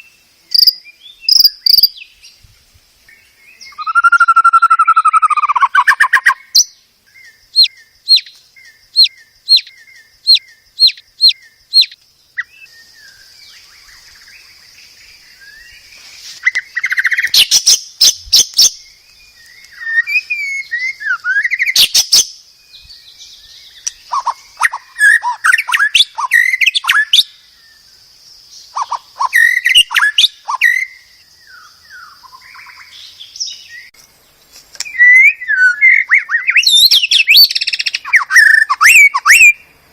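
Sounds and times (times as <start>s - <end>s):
songbird singing trills and whistles: 0.0s - 34.0s, 34.8s - 39.7s.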